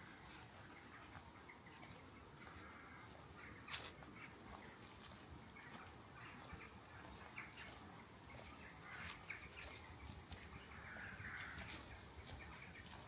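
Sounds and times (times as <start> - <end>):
distant birds calling: 0.0 - 13.0
footsteps crunching on dry path: 0.0 - 13.0.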